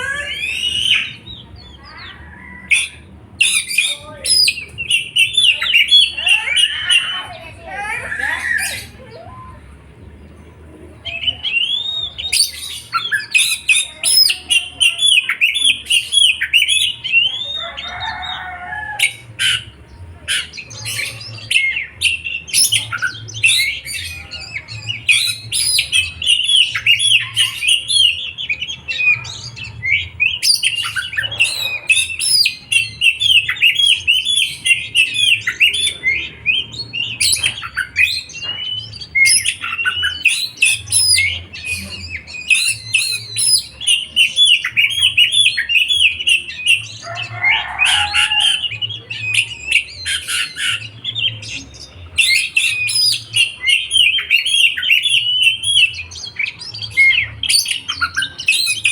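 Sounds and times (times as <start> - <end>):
songbird chirping and twittering: 0.0 - 58.9.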